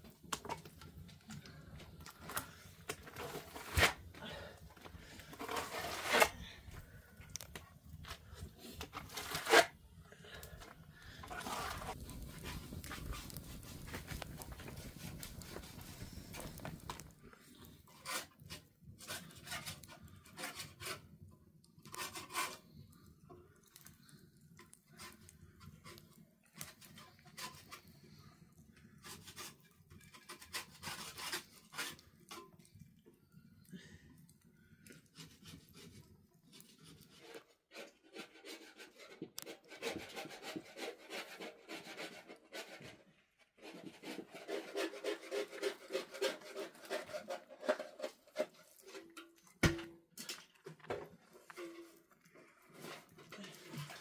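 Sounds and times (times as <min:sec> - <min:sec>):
rubbing and scraping strokes: 0:00.4 - 0:04.1, 0:04.8 - 0:21.2, 0:21.9 - 0:23.1, 0:23.8 - 0:32.4, 0:35.1 - 0:49.4, 0:50.9 - 0:54.0.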